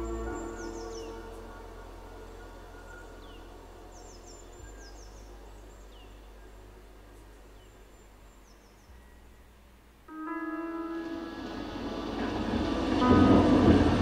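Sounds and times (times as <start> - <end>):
low steady drone: 0.0 - 14.0.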